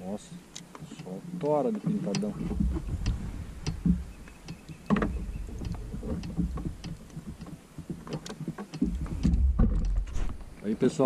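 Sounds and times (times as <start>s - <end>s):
handling clicks and knocks: 0.4s - 10.6s
wind rumble on microphone: 1.9s - 11.0s.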